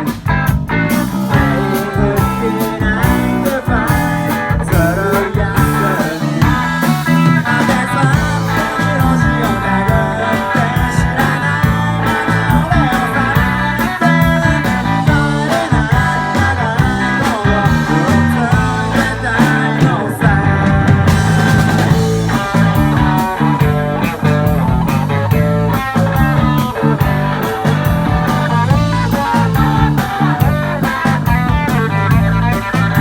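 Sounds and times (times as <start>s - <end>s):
rock music with guitar: 0.0s - 33.0s.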